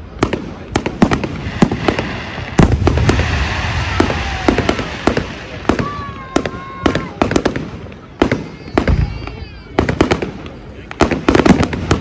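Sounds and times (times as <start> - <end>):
fireworks cracking and popping: 0.0 - 12.0
firework boom and rumble: 0.1 - 12.0.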